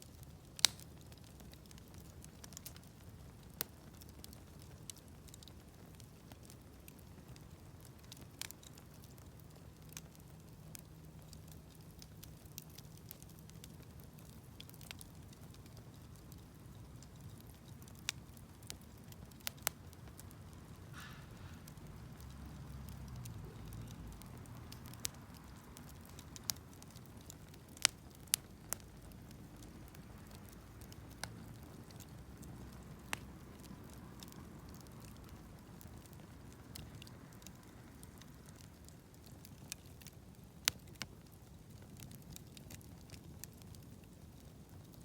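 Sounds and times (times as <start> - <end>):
fire popping: 0.0 - 45.0
campfire flame rushing: 0.3 - 45.0.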